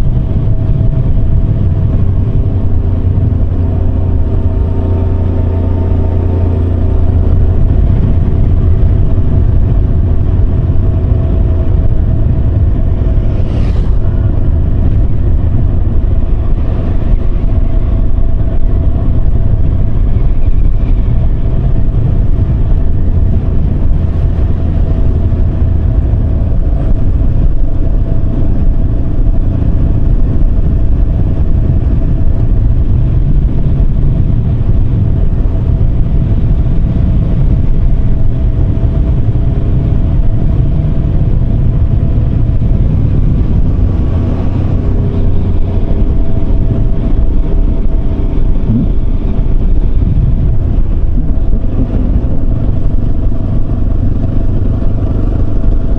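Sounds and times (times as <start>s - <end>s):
motorcycle engine running: 0.0s - 55.9s
road noise: 0.0s - 55.9s.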